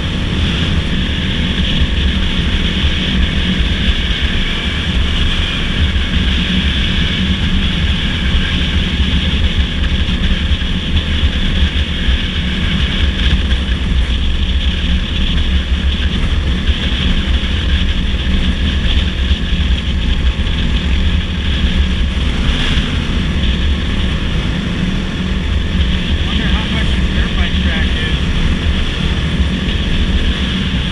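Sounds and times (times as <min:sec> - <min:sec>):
dirt bike engine running: 0:00.0 - 0:30.9
wind noise on microphone: 0:00.0 - 0:30.9.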